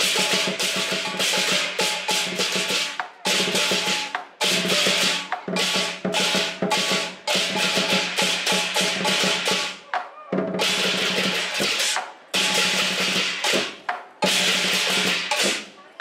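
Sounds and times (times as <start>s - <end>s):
cymbals crashing: 0.0s - 9.8s, 10.6s - 15.7s
large drum beating: 0.0s - 15.6s.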